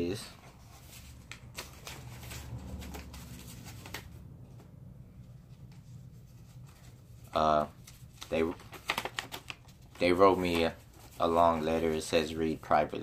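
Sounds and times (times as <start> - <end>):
low room hum: 0.0 - 13.0
paper rustling: 0.2 - 4.6, 5.2 - 13.0.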